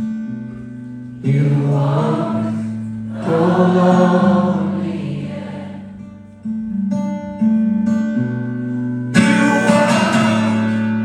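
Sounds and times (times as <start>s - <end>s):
acoustic guitar chords strummed: 0.0s - 11.0s
acoustic guitar notes picked: 0.0s - 11.0s.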